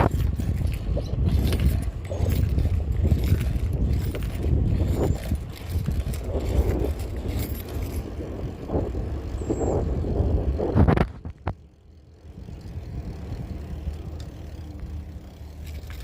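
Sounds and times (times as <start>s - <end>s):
bicycle tyre noise: 0.0s - 16.0s
wind rumbling on microphone: 0.0s - 16.0s.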